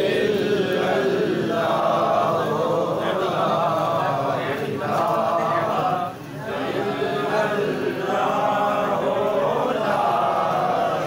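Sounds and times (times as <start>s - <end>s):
men chanting in unison: 0.0s - 11.0s.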